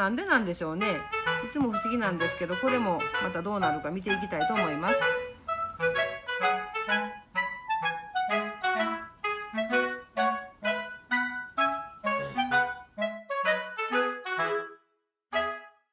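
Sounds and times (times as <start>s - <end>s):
light melody of short notes: 0.9s - 14.7s.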